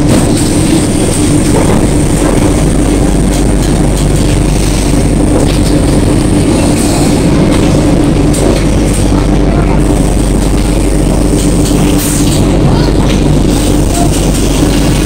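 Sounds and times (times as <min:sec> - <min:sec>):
low hum: 0:00.0 - 0:15.0
train wheels rumbling on rails: 0:00.0 - 0:15.0.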